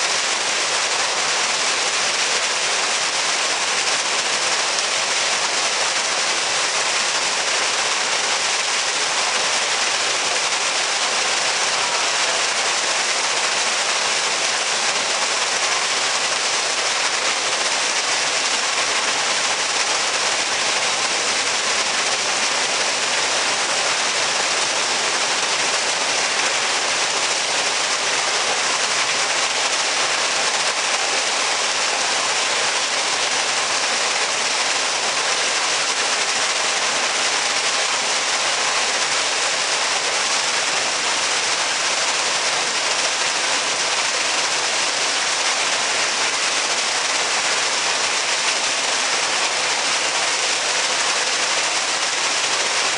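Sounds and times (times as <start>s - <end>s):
waterfall splashing into pool: 0.0s - 52.9s.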